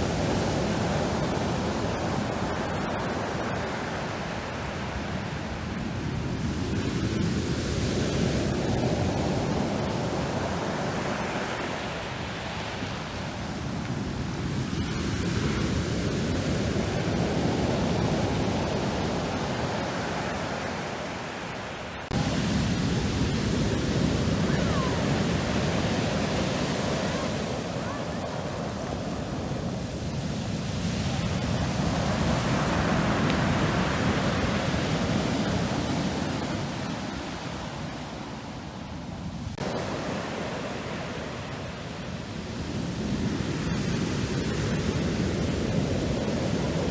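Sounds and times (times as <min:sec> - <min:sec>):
waves breaking on shore: 0:00.0 - 0:46.9.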